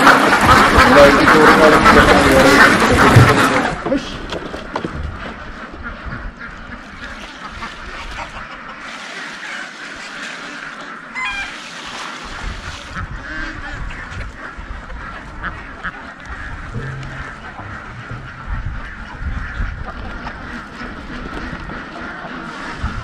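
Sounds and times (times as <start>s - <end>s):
chickens clucking: 0.0s - 23.0s
ducks quacking: 0.0s - 23.0s.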